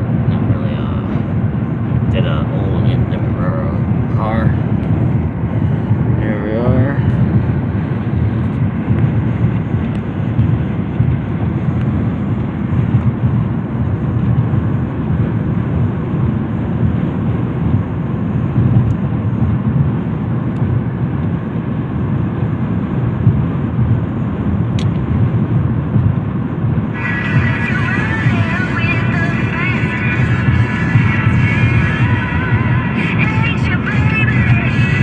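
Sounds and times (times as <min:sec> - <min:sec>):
tyre and wind noise in car: 0:00.0 - 0:35.0.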